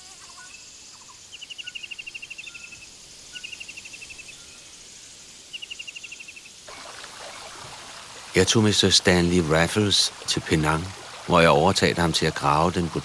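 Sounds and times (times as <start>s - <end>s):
faint high insect buzz: 0.0s - 13.0s.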